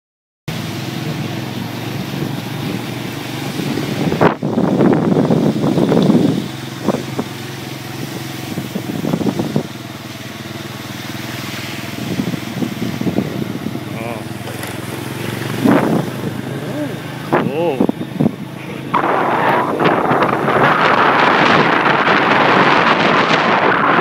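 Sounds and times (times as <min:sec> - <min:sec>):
traffic engine hum: 0:00.5 - 0:24.0
vehicle passing close: 0:00.5 - 0:24.0.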